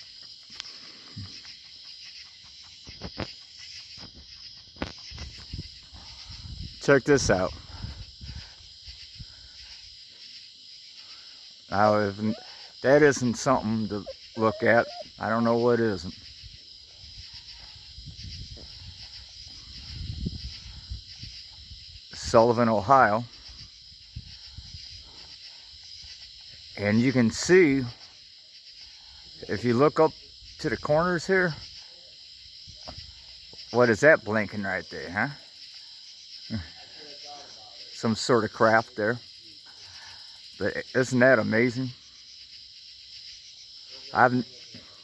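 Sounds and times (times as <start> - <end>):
night insects chirping: 0.0 - 45.0.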